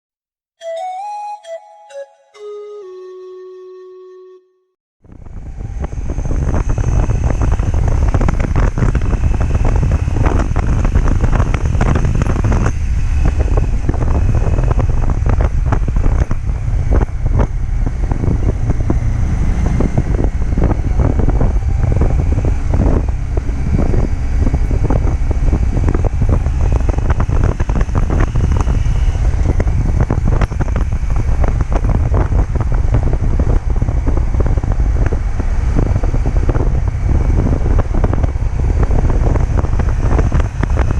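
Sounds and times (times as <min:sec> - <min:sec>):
motorcycle engine cruising: 0:05.0 - 0:40.9
wind rushing over microphone: 0:05.0 - 0:40.9.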